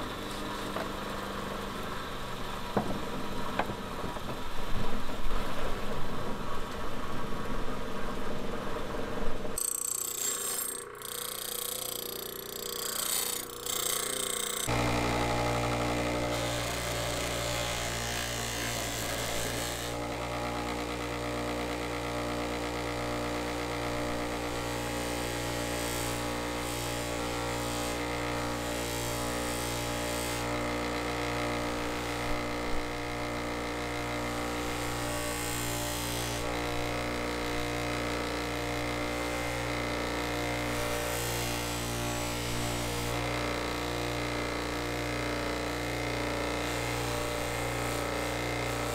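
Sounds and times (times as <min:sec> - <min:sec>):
electric power tool motor hum: 0:09.6 - 0:48.9.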